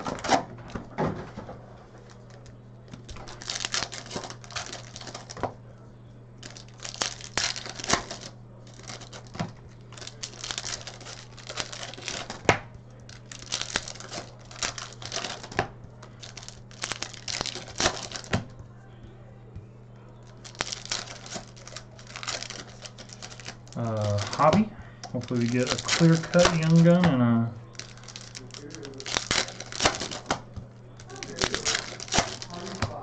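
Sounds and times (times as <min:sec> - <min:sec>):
card pack wrappers crinkling and tearing: 0:00.0 - 0:00.8, 0:02.0 - 0:05.6, 0:06.4 - 0:18.6, 0:20.2 - 0:33.0.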